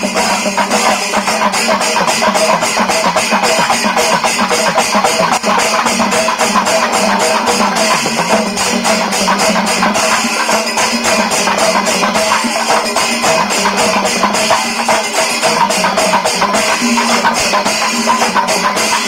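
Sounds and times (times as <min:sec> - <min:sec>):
quick percussion beat: 0:00.0 - 0:19.0.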